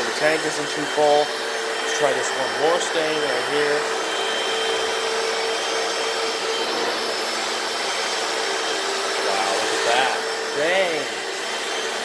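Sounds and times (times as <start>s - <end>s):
floor cleaner motor whine: 0.0s - 12.0s.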